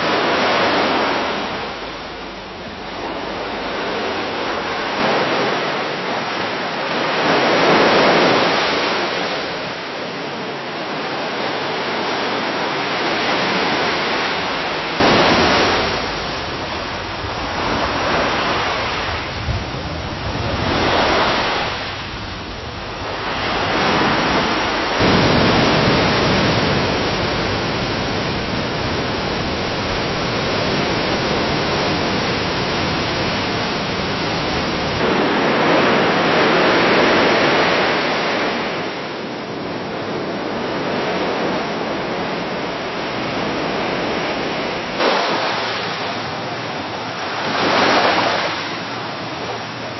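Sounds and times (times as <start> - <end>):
waves splashing against a dock: 0.0 - 49.9.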